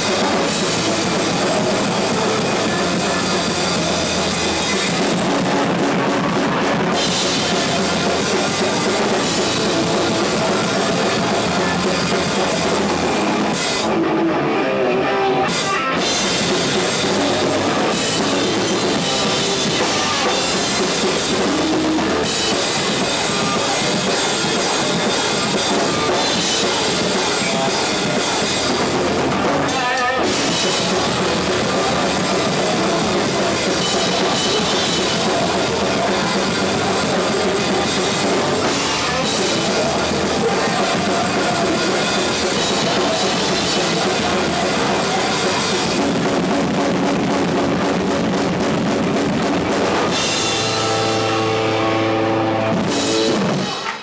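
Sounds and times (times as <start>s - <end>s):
shouted vocals: 0.0s - 46.3s
crowd yelling: 0.0s - 54.0s
live punk band playing: 0.0s - 54.0s.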